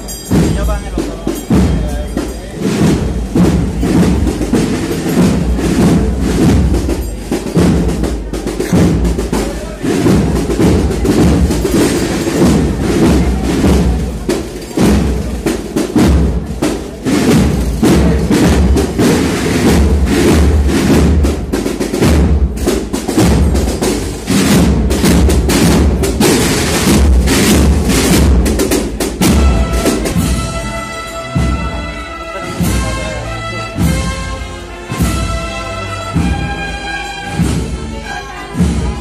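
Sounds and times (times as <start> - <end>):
snare drums: 0.0 - 39.0.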